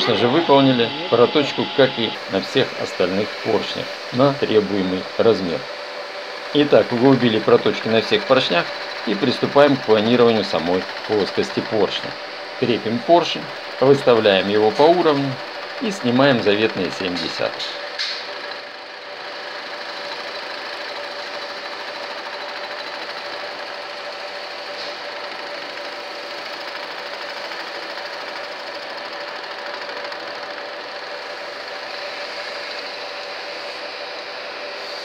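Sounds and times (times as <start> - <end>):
boring machine whirring: 0.0 - 35.0.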